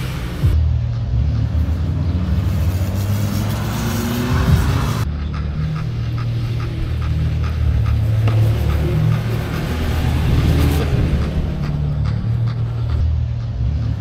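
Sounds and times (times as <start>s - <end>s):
background music: 0.0s - 14.0s
car engine revving: 0.0s - 14.0s.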